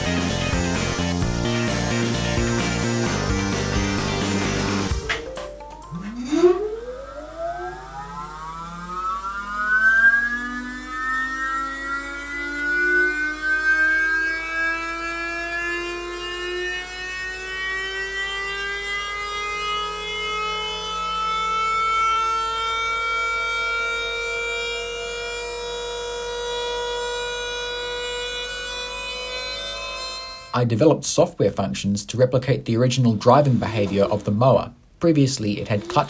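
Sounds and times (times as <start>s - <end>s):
electric motor whine spinning up: 0.0s - 5.2s, 5.8s - 30.6s, 33.2s - 34.4s, 35.6s - 36.0s.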